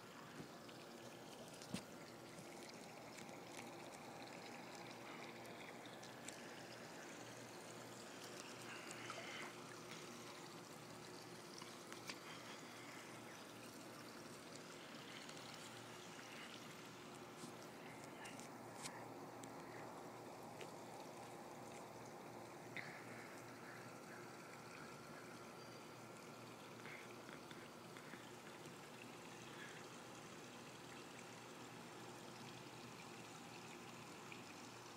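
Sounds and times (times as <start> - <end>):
faint low hum: 0.0 - 34.9.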